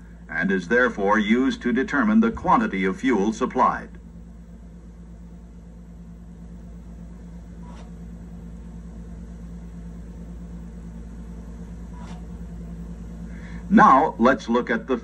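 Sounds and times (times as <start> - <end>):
projector humming: 0.0 - 15.0.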